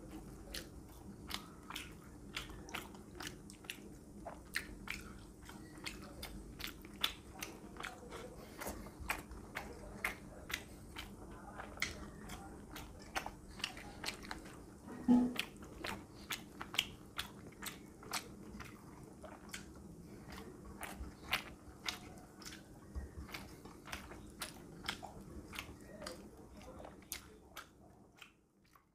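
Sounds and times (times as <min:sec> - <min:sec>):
wet chewing mouth smacks: 0:00.1 - 0:28.9.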